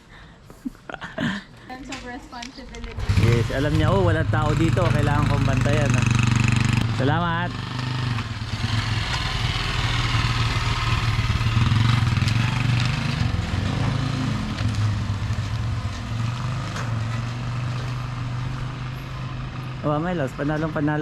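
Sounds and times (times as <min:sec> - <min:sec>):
vehicle engine running: 0:02.9 - 0:21.0.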